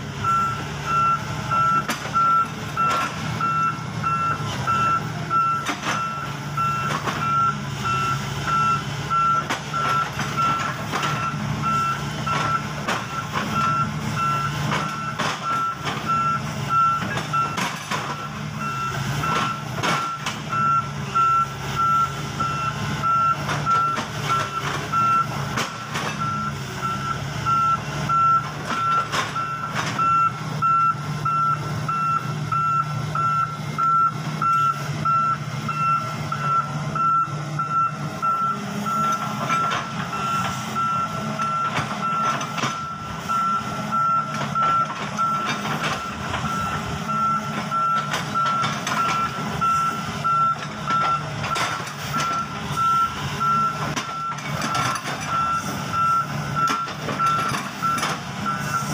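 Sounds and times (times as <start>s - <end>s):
diesel engine running: 0.0s - 58.9s
warning alarm beeping: 0.2s - 25.4s, 26.2s - 58.9s.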